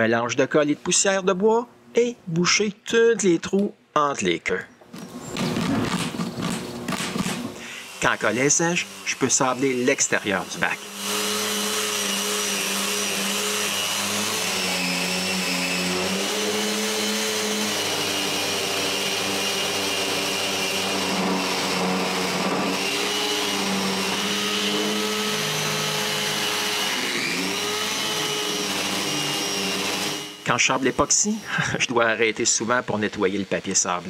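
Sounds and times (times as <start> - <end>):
electric sander on wood: 5.0 - 34.0.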